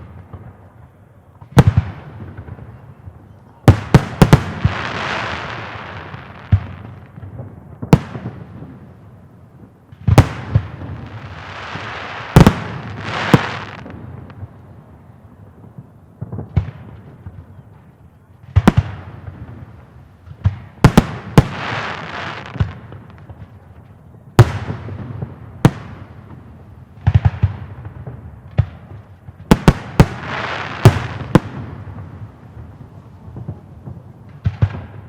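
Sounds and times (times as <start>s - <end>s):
firework crackle: 0.0s - 35.0s.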